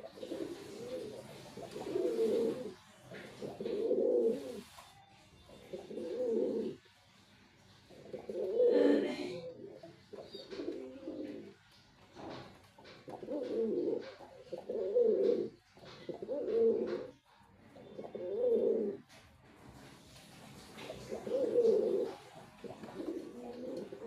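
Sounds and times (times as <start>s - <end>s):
pigeon cooing: 0.0s - 6.9s, 7.8s - 19.2s, 20.6s - 24.0s.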